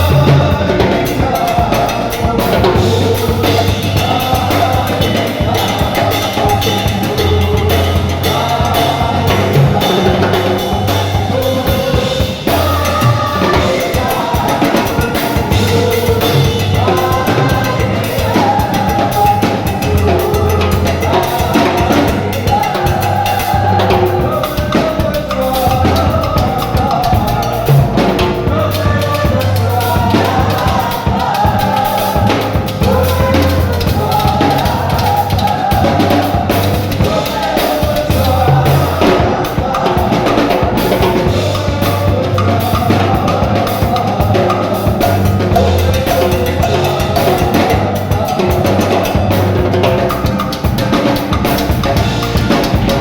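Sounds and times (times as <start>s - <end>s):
worship band playing: 0.0s - 53.0s.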